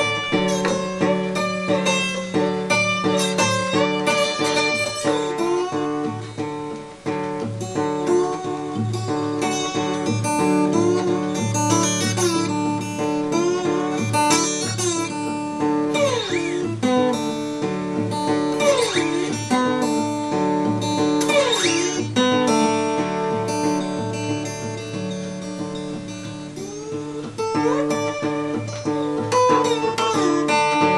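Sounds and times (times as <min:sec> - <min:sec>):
slide acoustic guitar: 0:00.0 - 0:30.9.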